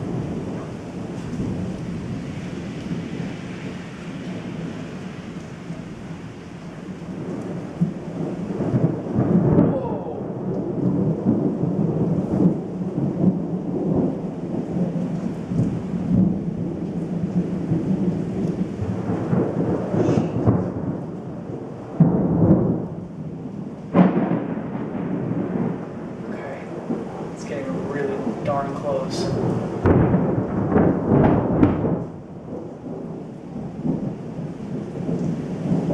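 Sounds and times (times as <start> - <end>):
close thunder cracks: 0.0 - 6.2, 6.8 - 35.9
rain falling: 0.0 - 35.9
thunder rumbling: 0.0 - 35.9.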